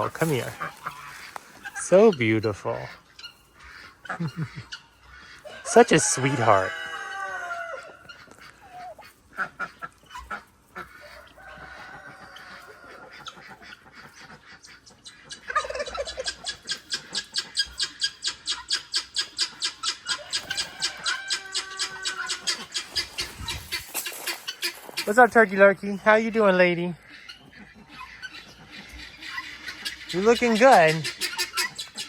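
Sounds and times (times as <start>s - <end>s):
poultry calling: 0.0s - 32.0s.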